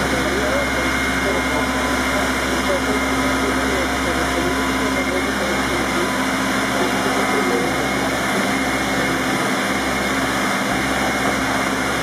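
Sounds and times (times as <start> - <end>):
ground power unit droning: 0.0 - 12.0.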